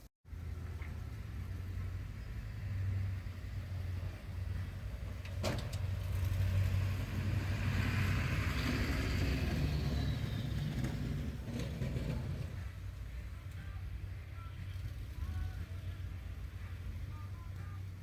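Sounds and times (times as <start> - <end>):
road noise: 0.0 - 18.0
truck engine rumble: 0.0 - 18.0.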